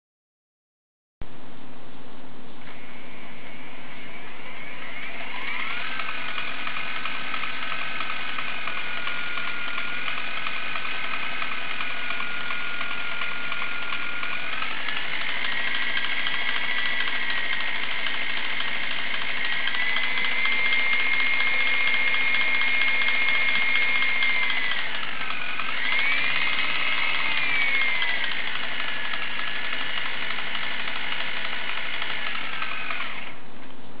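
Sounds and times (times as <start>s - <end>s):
rc helicopter motor whine: 2.6s - 33.5s.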